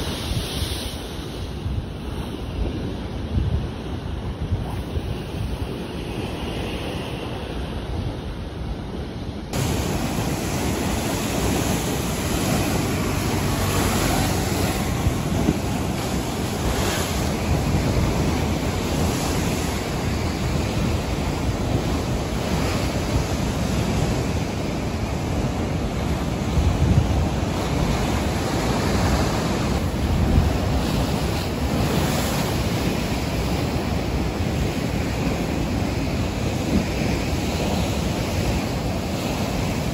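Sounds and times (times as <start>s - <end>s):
sea surf breaking: 0.0s - 39.9s
wind buffeting microphone: 0.0s - 39.9s.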